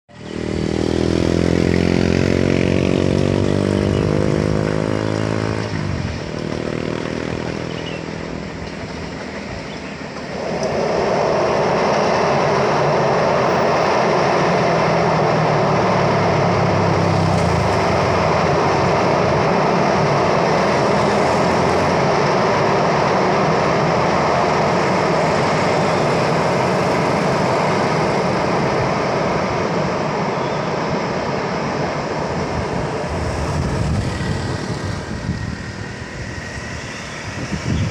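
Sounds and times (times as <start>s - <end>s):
loud rushing roar: 0.1s - 37.9s
diesel engine under load: 0.2s - 37.9s.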